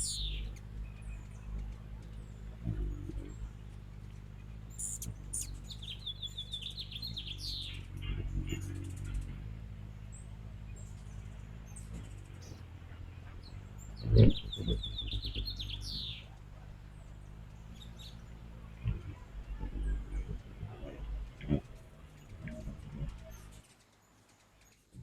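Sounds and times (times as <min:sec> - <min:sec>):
low steady hum: 0:00.0 - 0:23.6
hummingbirds chattering: 0:00.0 - 0:23.8.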